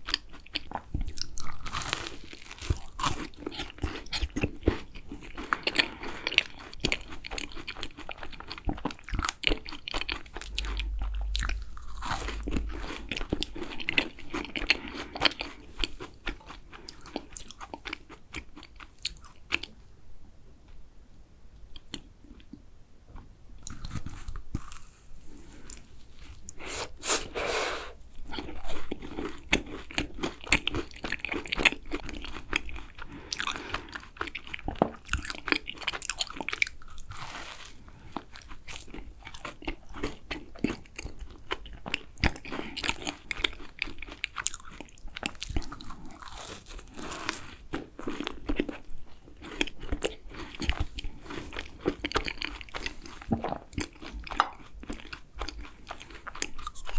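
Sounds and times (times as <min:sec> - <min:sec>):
crunchy bites and chewing: 0:00.0 - 0:19.7, 0:23.6 - 0:25.9, 0:28.2 - 0:56.9.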